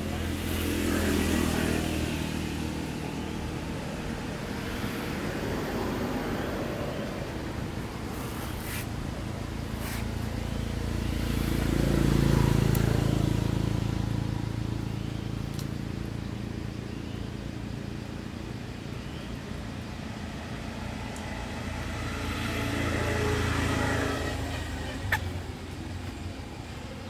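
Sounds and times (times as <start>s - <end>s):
vehicle engine passing by: 0.0s - 27.0s.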